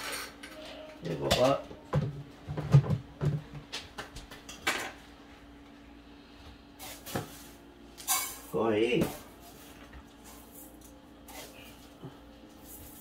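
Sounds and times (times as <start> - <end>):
steady faint hum: 0.0 - 13.0.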